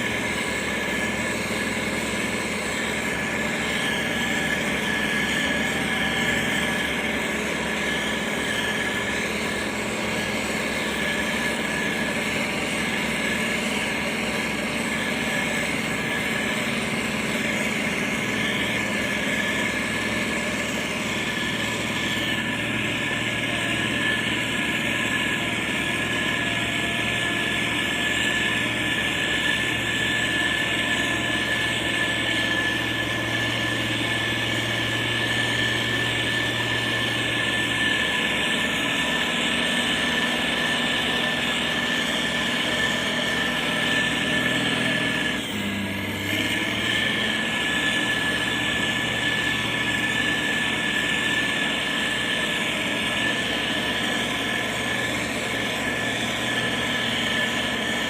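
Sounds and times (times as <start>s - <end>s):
diesel engine running: 0.0s - 58.0s
high-pitched whine: 0.0s - 58.0s.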